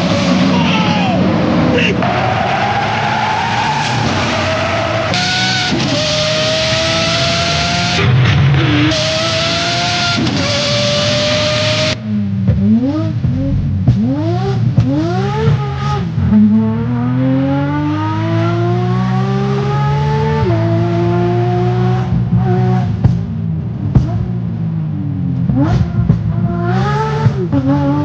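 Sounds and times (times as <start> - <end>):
racing engine revving: 0.0 - 28.0.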